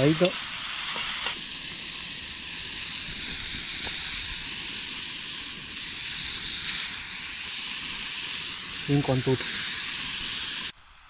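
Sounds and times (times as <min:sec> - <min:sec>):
meat and onions sizzling: 0:00.0 - 0:11.0.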